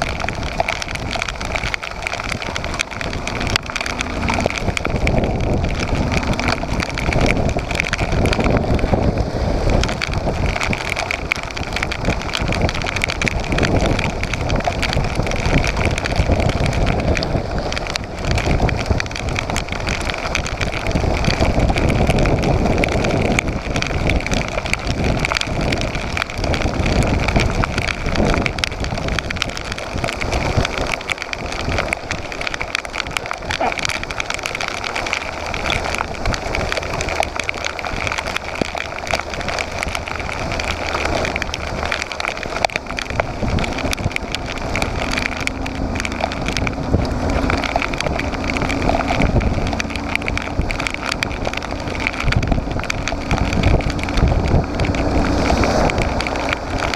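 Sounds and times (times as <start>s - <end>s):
rain: 0.0s - 56.9s
wind rushing on microphone: 0.0s - 56.9s.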